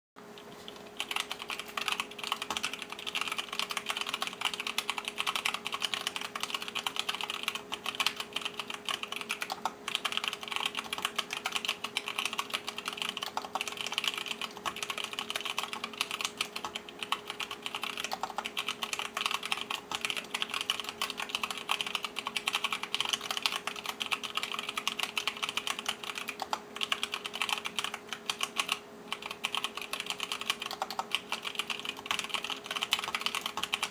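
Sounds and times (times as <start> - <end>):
fast typing on mechanical keyboard: 0.4 - 33.9.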